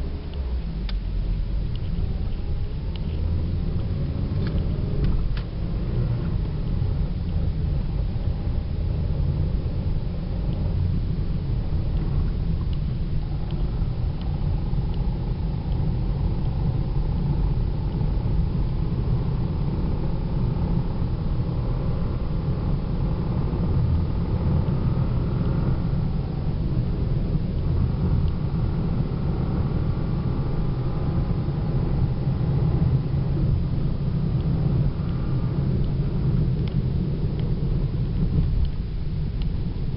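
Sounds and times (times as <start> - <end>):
car engine and road rumble: 0.0 - 39.9
faint whine rising in pitch: 0.0 - 39.9.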